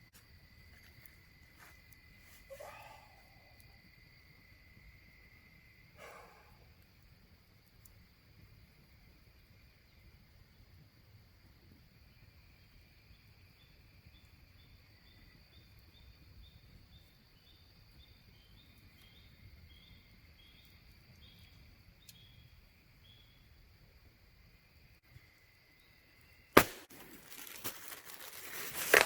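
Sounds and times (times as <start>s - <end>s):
cricket chirping: 0.0s - 29.0s
insect trill: 0.1s - 29.0s.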